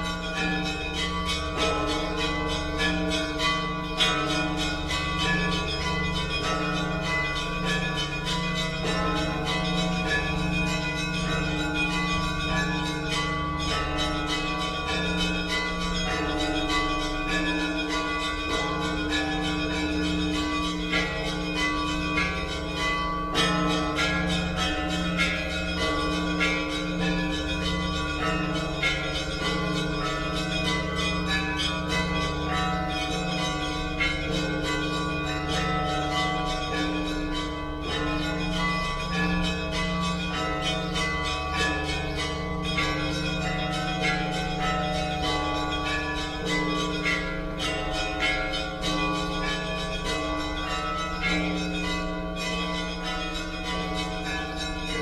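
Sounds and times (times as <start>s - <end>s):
church bells ringing a peal: 0.0s - 55.0s.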